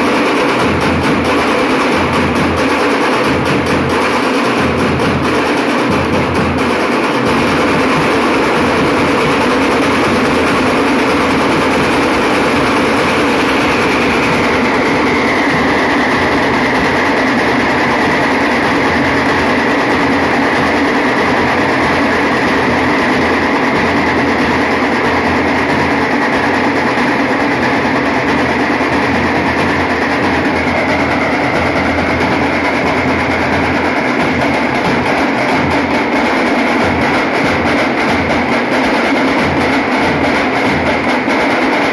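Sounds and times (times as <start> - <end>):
drum troupe playing fast rhythm: 0.0 - 41.9.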